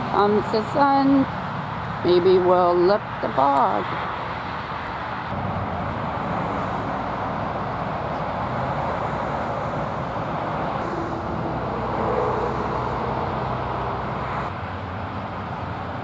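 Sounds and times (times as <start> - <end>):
road traffic noise: 0.0 - 16.0
vehicle passing: 0.0 - 16.0.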